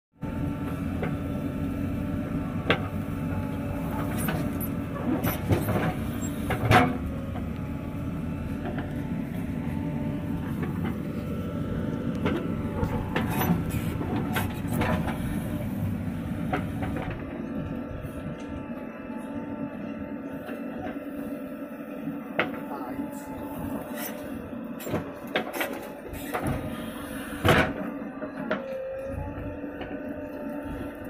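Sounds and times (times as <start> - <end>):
diesel engine running under load: 0.1 - 31.0.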